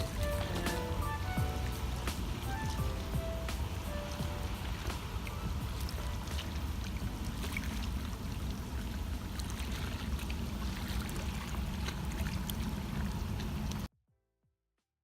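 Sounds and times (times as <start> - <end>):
steady low rumble: 0.0 - 13.9
water lapping against rocks: 0.0 - 13.9.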